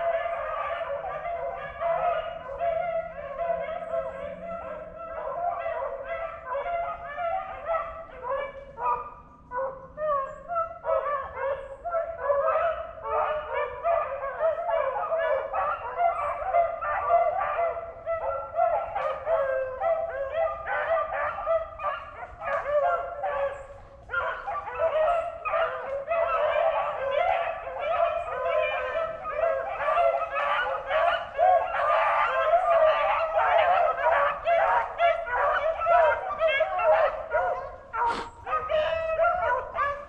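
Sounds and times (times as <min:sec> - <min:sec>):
dogs baying and yelping: 0:00.0 - 0:40.0.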